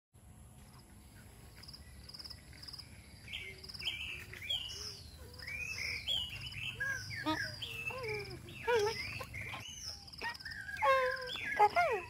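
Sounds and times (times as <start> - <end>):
birds chirping and whistling: 1.8 - 12.0.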